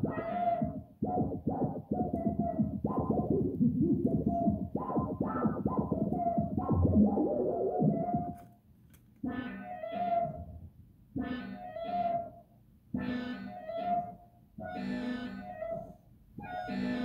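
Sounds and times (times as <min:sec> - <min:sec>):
synthesizer notes: 0:00.0 - 0:08.5, 0:09.2 - 0:10.6, 0:11.2 - 0:12.4, 0:13.0 - 0:17.0.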